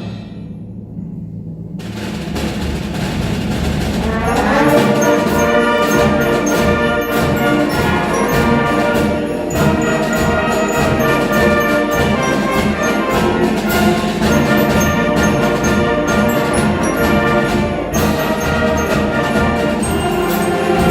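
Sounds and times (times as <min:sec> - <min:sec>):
steady low beat: 0:00.0 - 0:20.9
brass chords: 0:01.8 - 0:20.9.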